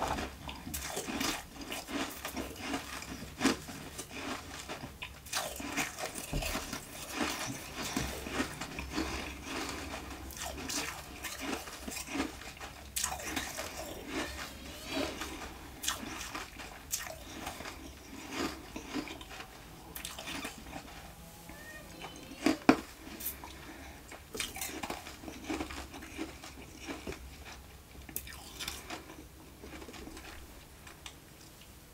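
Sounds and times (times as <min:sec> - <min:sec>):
chewing crunchy ice: 0:00.0 - 0:21.2, 0:22.0 - 0:31.2.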